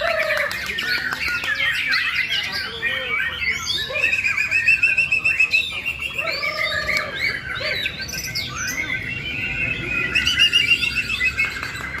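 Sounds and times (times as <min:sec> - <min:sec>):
bird singing whistles and chirps: 0:00.0 - 0:12.0.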